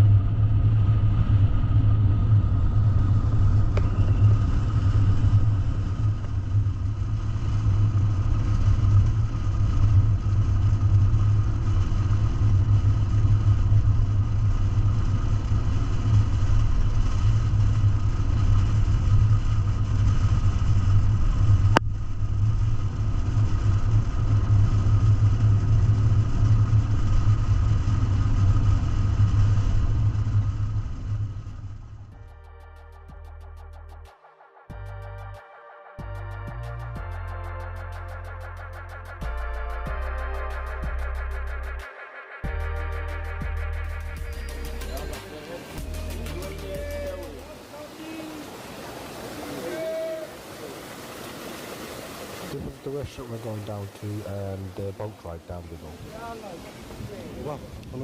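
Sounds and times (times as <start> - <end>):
road vehicle drone: 0.0 - 49.2.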